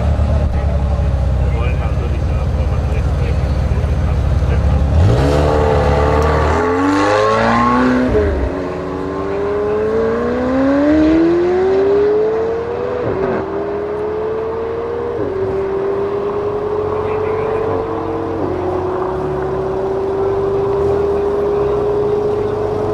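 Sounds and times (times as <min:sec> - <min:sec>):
car engine accelerating hard: 0:00.0 - 0:22.9.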